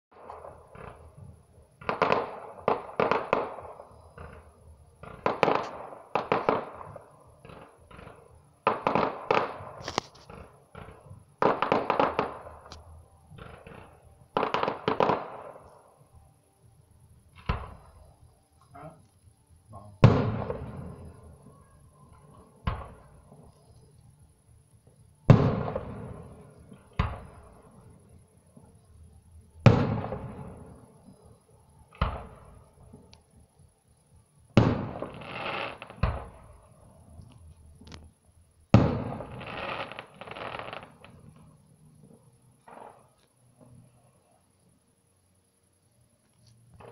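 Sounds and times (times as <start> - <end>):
fireworks bursting with bangs: 0.1 - 16.2, 17.2 - 44.2, 45.0 - 46.9.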